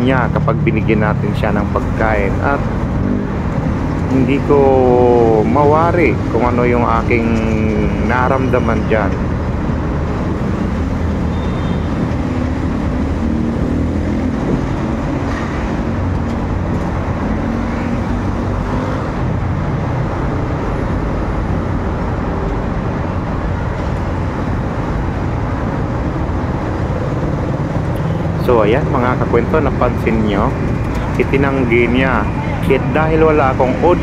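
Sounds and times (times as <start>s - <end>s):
road traffic passing: 0.0s - 34.0s.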